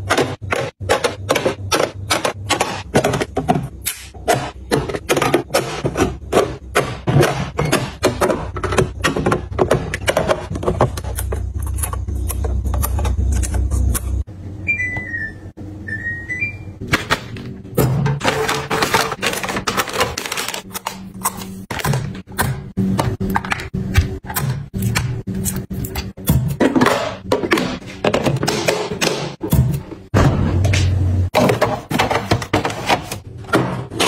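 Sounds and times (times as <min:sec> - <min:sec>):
jars and boxes clicking on shelves: 0:00.0 - 0:14.3, 0:16.8 - 0:34.0.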